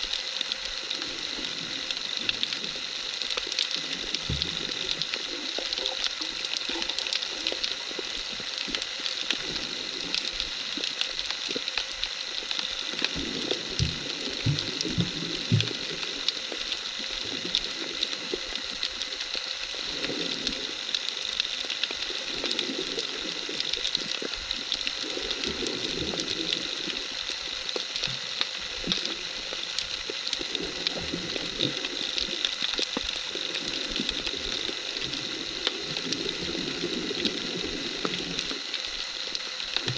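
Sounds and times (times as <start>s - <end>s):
muffled water surges: 0.0s - 39.9s
underwater crackling hiss: 0.0s - 39.9s.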